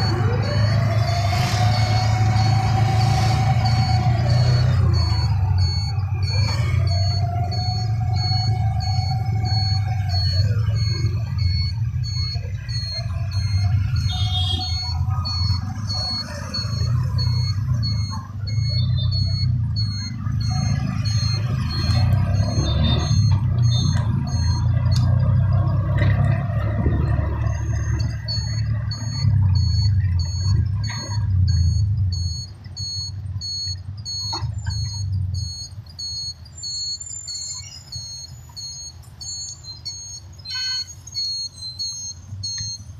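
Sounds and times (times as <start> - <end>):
high-pitched beeping: 0.0 - 42.9
vehicle engine low rumble: 0.0 - 42.9.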